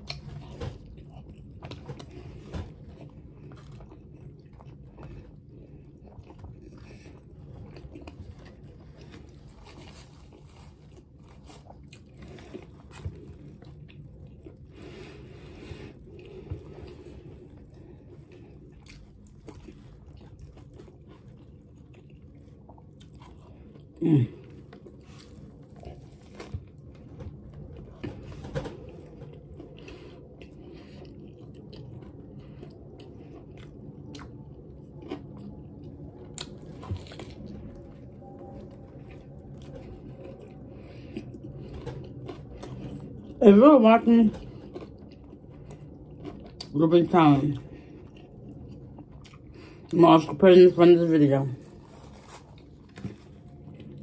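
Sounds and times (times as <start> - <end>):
chewing and biting sandwich: 0.0 - 50.0, 51.4 - 54.0.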